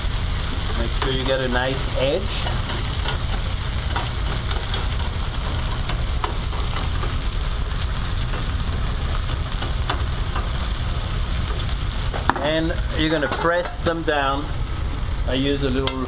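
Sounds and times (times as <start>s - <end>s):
low rumble: 0.0s - 15.9s
potatoes sizzling in a pan: 0.0s - 16.0s.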